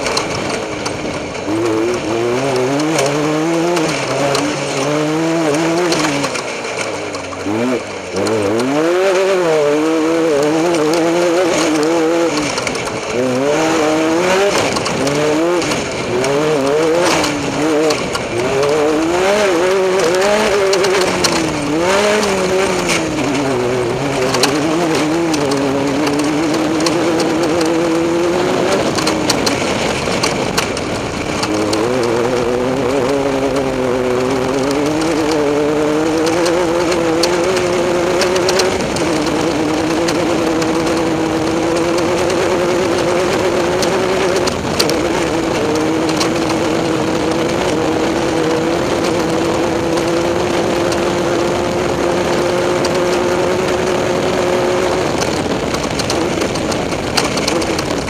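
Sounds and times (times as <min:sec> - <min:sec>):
race vehicle engine under load: 0:00.0 - 0:58.0
steady rush of noise: 0:00.0 - 0:58.0.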